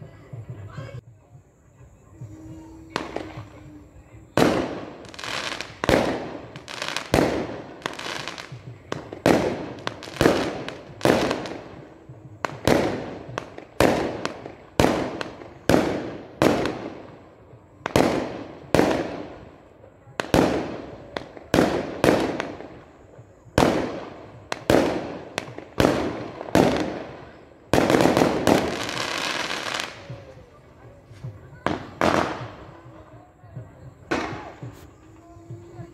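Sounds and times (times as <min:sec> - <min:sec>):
fireworks bangs with echo: 0:02.8 - 0:35.9.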